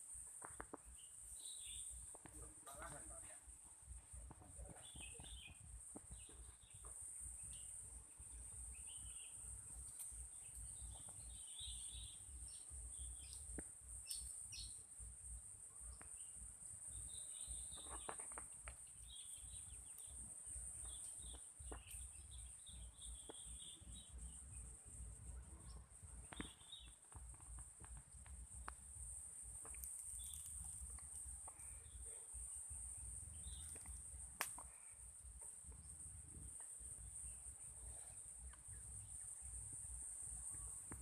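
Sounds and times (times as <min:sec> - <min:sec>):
birds chirping: 0:00.7 - 0:14.9, 0:15.7 - 0:40.9.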